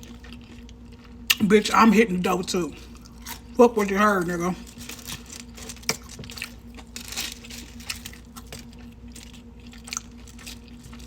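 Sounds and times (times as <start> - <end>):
faint steady hum: 0.0 - 11.0
person chewing a burger: 0.0 - 11.0.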